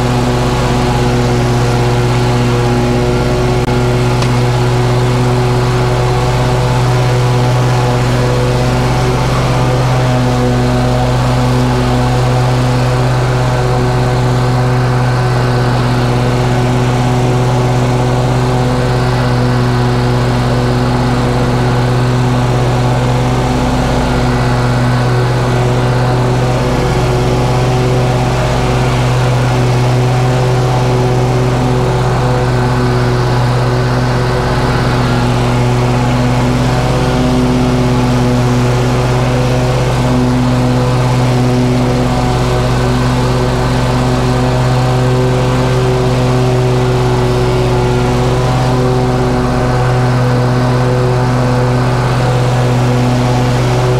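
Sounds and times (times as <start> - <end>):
lawn mower engine running: 0.0 - 53.9.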